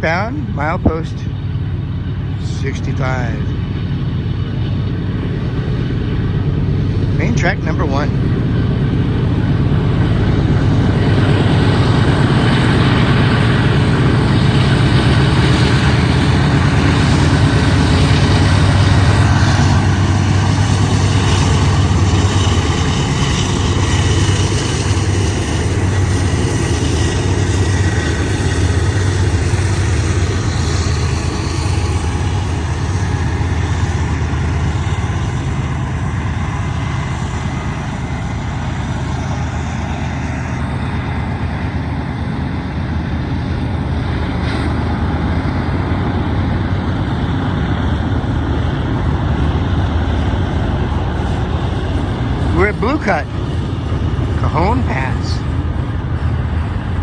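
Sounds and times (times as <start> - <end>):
diesel locomotive engines droning: 0.0 - 57.0
wheel-on-rail noise: 8.1 - 54.8.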